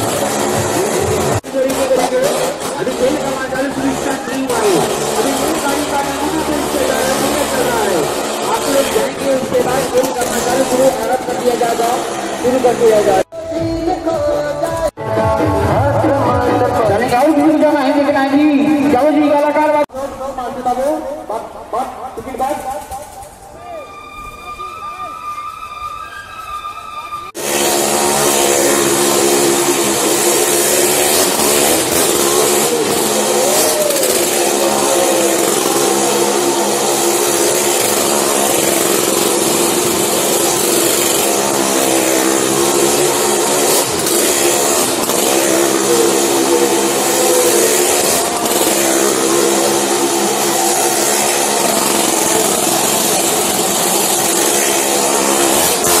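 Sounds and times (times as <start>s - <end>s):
motorcycle engine revving: 0.0s - 23.6s, 27.3s - 56.0s.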